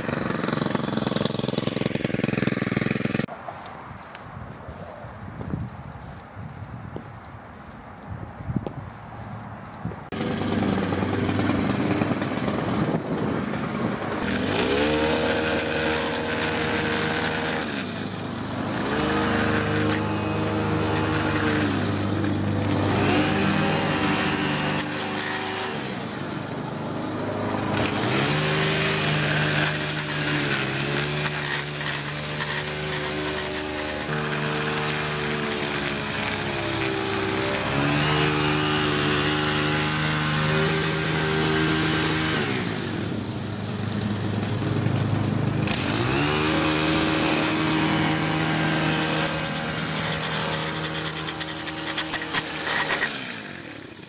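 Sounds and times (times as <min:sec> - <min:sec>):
string trimmer engine revving: 0:00.0 - 0:03.3, 0:10.1 - 0:54.0.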